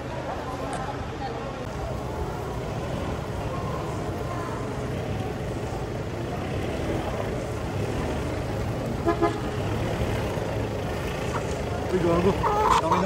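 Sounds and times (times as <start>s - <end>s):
car engine running: 1.7s - 13.0s.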